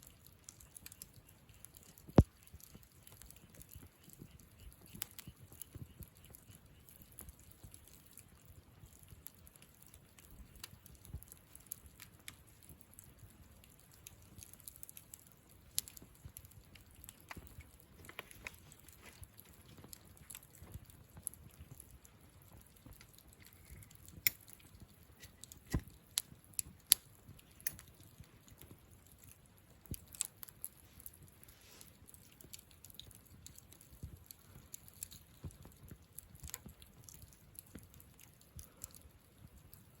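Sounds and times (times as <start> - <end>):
campfire crackling: 0.0 - 40.0
low hiss of burning: 0.0 - 40.0.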